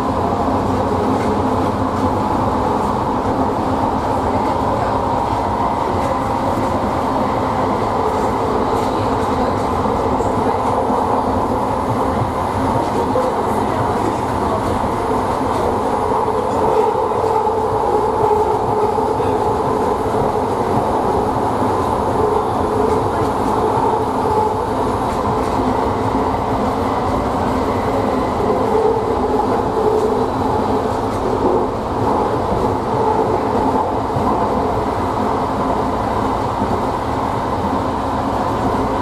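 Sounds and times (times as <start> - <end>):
steel wheels rumbling on rail: 0.0 - 39.0.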